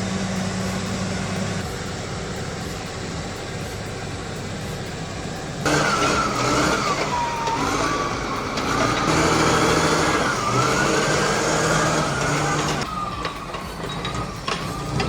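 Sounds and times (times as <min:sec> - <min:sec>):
engine revving with whine: 0:00.0 - 0:15.0.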